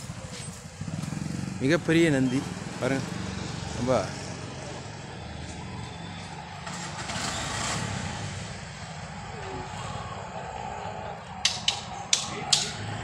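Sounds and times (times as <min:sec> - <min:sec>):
traffic rumble: 0:00.0 - 0:13.0
vehicle passing: 0:00.0 - 0:13.0.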